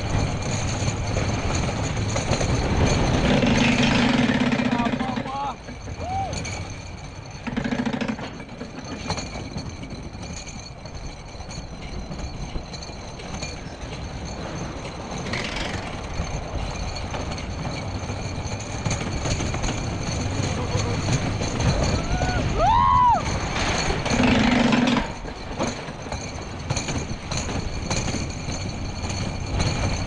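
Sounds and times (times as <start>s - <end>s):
roller coaster wheels clattering: 0.0s - 30.0s.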